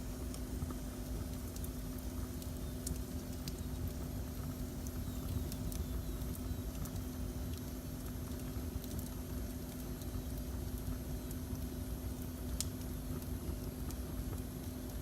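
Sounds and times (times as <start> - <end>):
faint steady hum: 0.0 - 15.0
fire crackles: 0.0 - 15.0.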